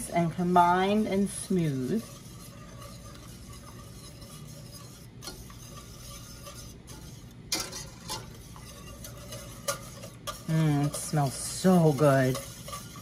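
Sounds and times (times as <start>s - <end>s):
whisk clinking against pan: 0.0s - 13.0s
whisk swishing in sauce: 0.0s - 13.0s.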